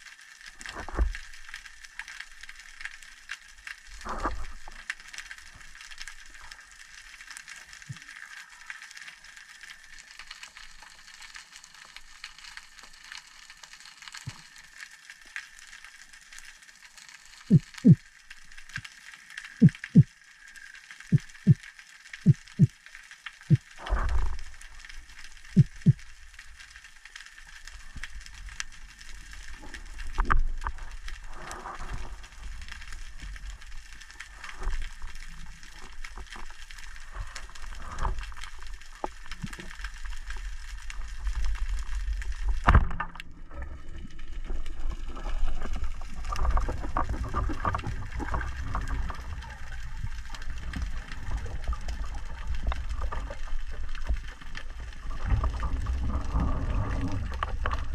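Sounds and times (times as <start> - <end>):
rushing water: 0.0 - 57.9
underwater water noise: 0.0 - 57.9.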